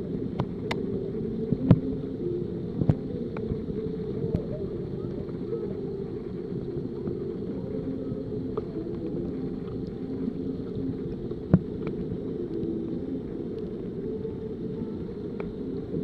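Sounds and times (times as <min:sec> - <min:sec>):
muffled underwater rumble: 0:00.0 - 0:16.0.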